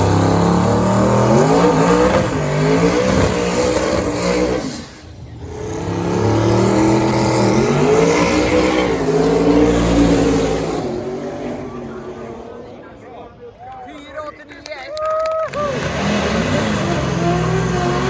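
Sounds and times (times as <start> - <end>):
race car engines accelerating: 0.0 - 13.8, 15.2 - 18.0.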